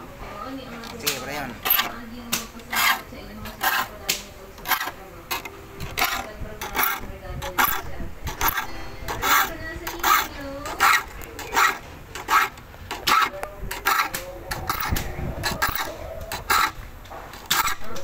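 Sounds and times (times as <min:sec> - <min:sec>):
file rasping on saw teeth: 0:02.6 - 0:04.0, 0:04.6 - 0:17.9.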